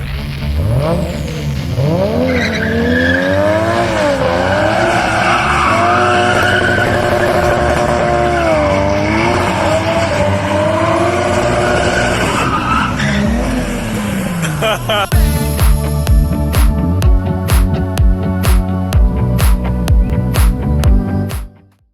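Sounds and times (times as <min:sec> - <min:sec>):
engine revving: 0:00.0 - 0:21.3.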